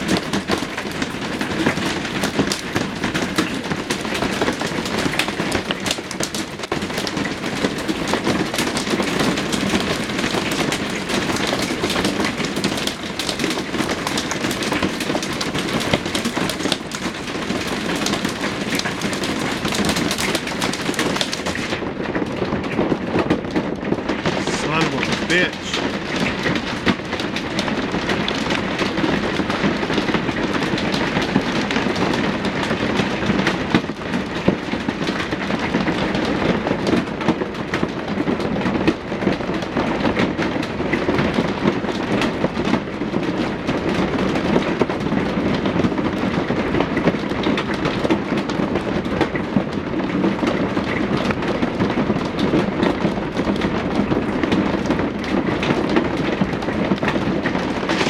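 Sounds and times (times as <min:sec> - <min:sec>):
hail pelting hard surfaces: 0:00.0 - 0:58.0.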